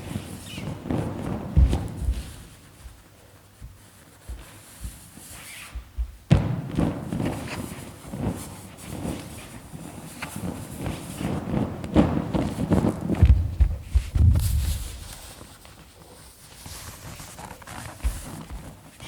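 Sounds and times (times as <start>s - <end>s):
balloon thuds and thumps: 0.0s - 15.3s, 17.8s - 19.0s
rubber rubbing: 0.0s - 19.0s.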